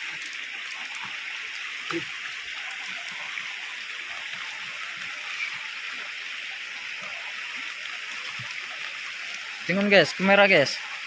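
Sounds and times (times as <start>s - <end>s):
rain falling on river: 0.0s - 11.0s.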